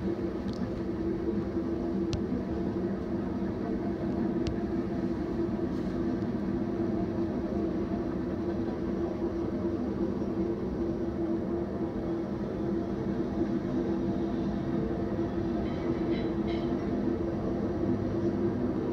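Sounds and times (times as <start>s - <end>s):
freight train rumbling: 0.0s - 18.9s.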